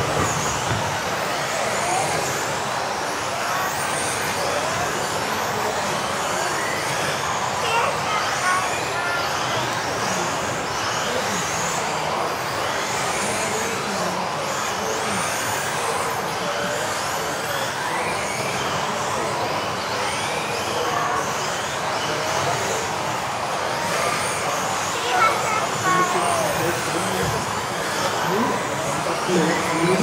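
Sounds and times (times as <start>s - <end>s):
rc car motor whines: 0.0s - 30.0s.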